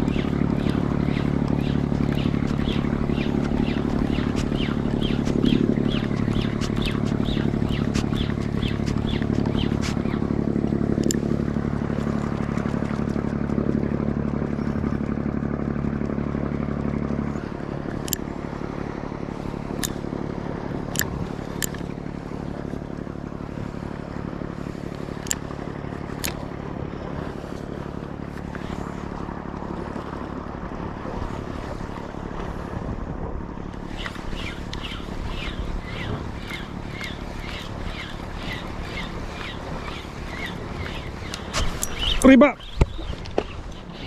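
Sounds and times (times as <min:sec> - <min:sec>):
low mechanical hum: 0:00.0 - 0:44.0
water noise: 0:00.0 - 0:44.0
wind: 0:00.0 - 0:44.0.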